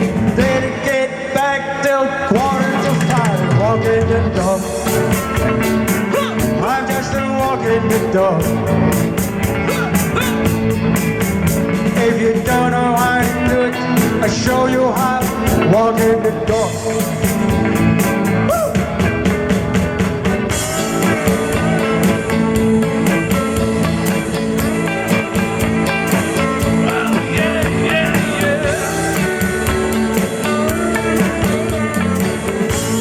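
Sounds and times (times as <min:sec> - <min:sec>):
bass guitar: 0:00.0 - 0:33.0
electric guitar lead: 0:00.0 - 0:33.0
drum beat: 0:02.4 - 0:33.0.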